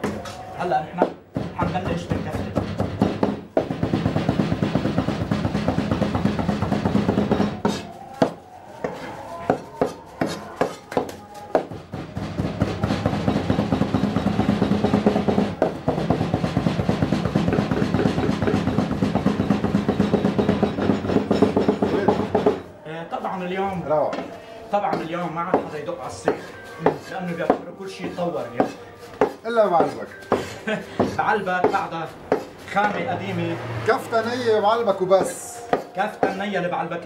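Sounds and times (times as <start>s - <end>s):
blade chopping meat on wooden block: 1.0s - 22.6s, 24.9s - 33.0s, 35.0s - 36.5s.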